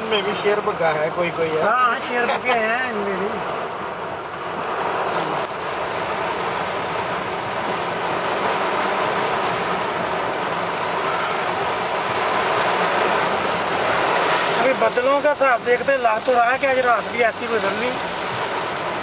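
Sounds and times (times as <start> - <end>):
rain on moving car: 0.0 - 19.0
tyres on flooded road: 0.0 - 19.0.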